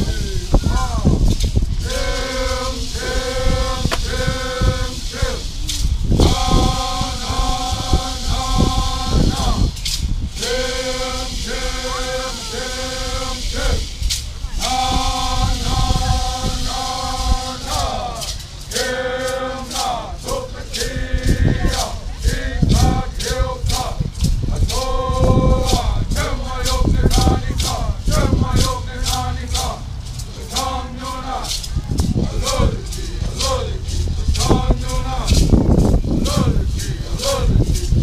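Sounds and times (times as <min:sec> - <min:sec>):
group singing held notes: 0:00.0 - 0:38.0
rattle shaken in steady beat: 0:00.0 - 0:38.0.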